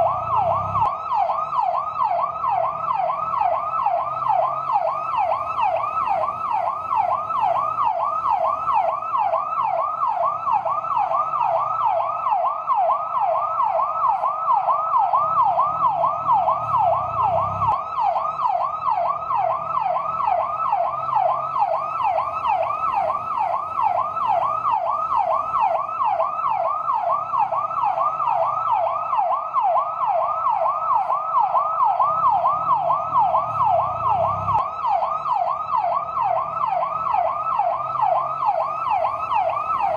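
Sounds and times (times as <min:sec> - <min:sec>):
fire truck siren yelping: 0:00.0 - 0:39.9.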